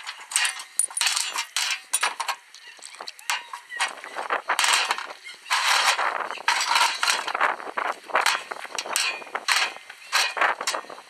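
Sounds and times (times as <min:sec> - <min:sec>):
metal vise parts scraping: 0:00.0 - 0:11.0.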